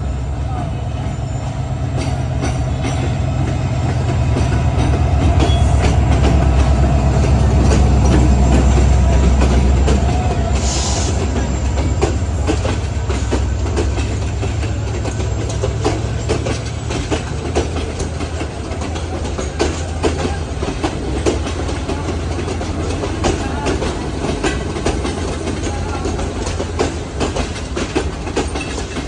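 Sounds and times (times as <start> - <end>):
low train rumble: 0.0 - 29.0
train wheels clattering: 0.0 - 29.0.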